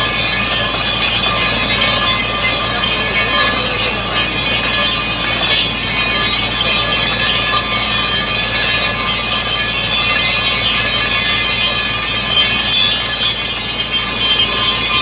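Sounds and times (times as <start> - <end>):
drilling rig engine droning: 0.0 - 15.0.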